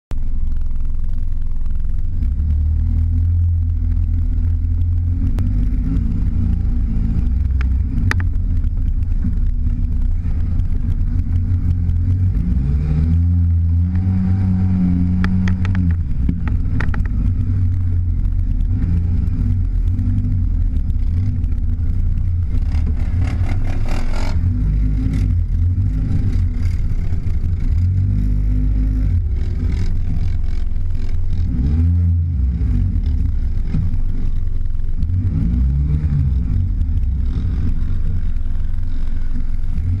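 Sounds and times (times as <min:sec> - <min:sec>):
vehicle engine rumbling and revving: 0:00.1 - 0:40.0.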